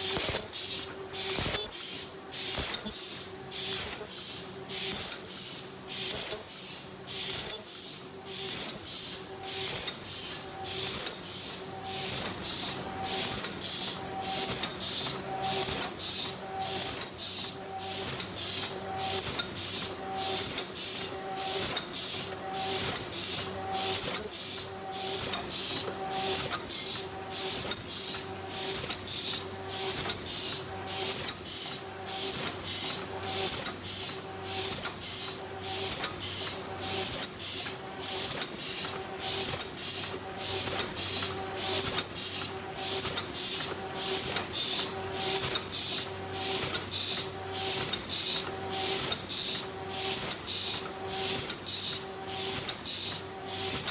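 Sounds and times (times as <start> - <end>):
machine stroke with sharp hiss: 0.0 - 53.9
steady pitched machine hum: 0.0 - 53.9.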